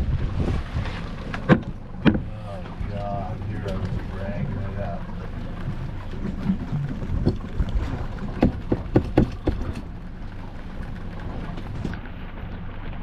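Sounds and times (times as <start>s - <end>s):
boat motor running: 0.0s - 13.0s
knocks and thumps on hull: 0.0s - 13.0s
wind rumble on microphone: 0.0s - 13.0s.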